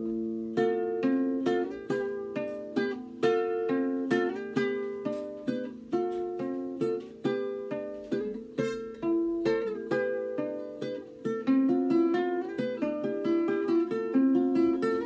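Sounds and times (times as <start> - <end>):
fingerpicked classical guitar: 0.0 - 15.0.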